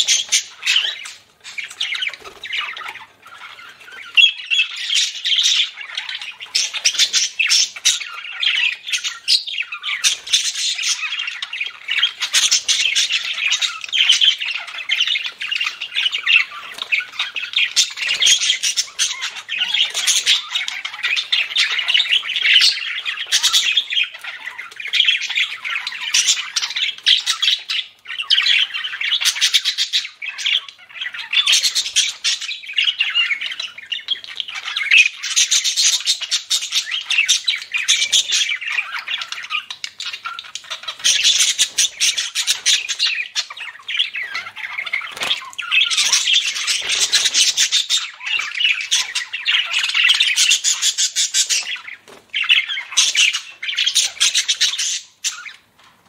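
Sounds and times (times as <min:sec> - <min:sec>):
budgerigars chattering: 0:00.0 - 0:55.7.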